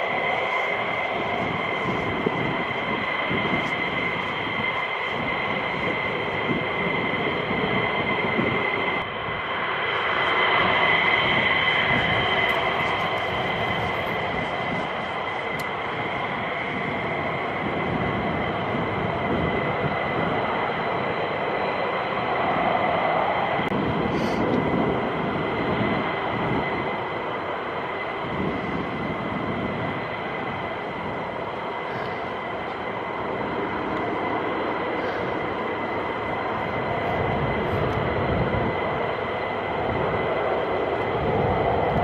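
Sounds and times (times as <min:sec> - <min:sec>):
jet engines roaring with whine: 0:00.0 - 0:42.0.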